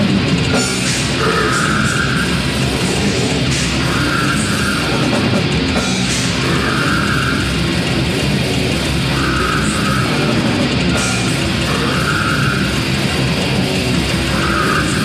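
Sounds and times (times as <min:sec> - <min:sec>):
death metal band playing: 0:00.0 - 0:15.0.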